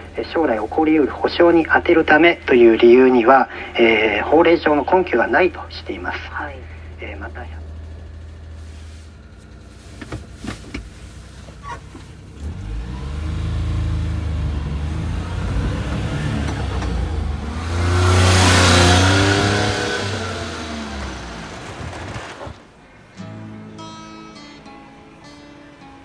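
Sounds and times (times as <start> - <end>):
small truck engine: 0.0 - 25.5.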